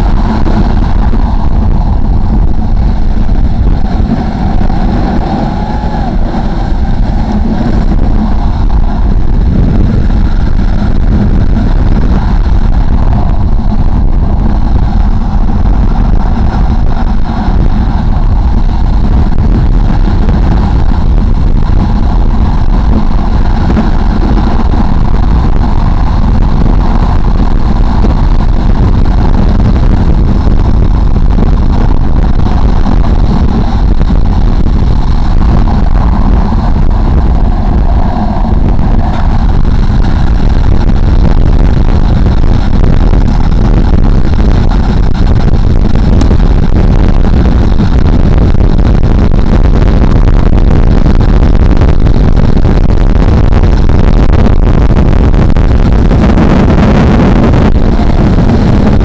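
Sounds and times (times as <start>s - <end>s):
skateboard wheels rumbling on asphalt: 0.0s - 59.0s
wind rushing over microphone: 0.0s - 59.0s.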